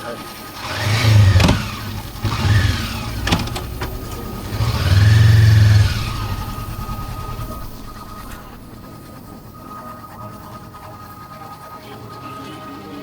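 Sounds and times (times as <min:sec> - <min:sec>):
vehicle engine revving: 0:00.6 - 0:11.4.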